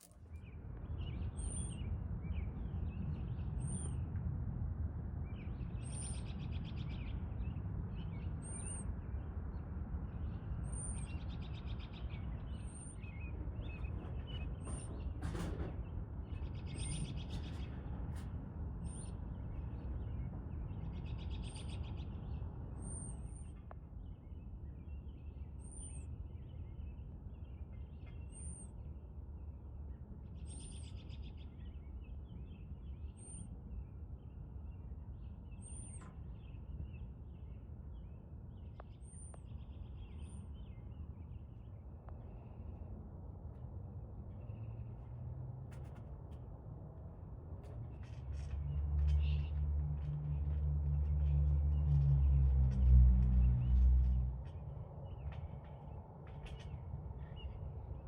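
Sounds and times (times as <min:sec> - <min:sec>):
songbirds calling and singing: 0:05.4 - 0:43.0, 0:47.6 - 0:58.0
low outdoor rumble: 0:09.2 - 0:58.0.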